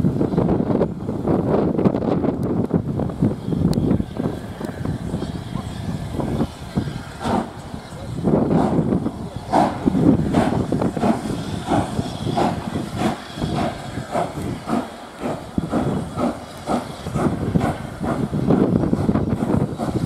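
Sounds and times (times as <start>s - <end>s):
steam locomotive exhaust chuffing: 0.0s - 20.0s.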